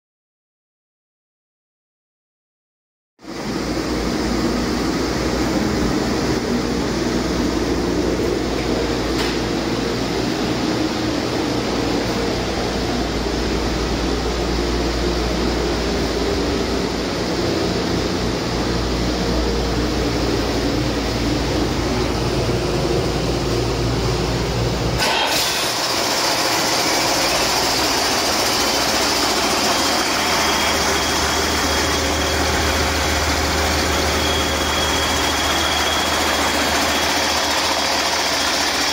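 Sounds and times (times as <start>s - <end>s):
turbocharger whine: 3.2s - 38.9s
diesel engine running: 3.3s - 38.9s.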